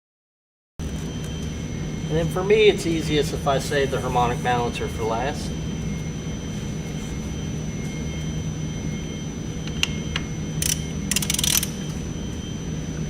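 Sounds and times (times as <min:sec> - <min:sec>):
steady low hum: 0:00.8 - 0:13.0.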